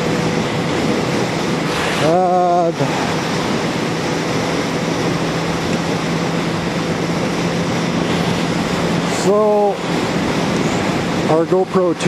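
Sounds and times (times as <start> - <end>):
motorcycle engine droning: 0.0 - 12.0
wind rush: 0.0 - 12.0.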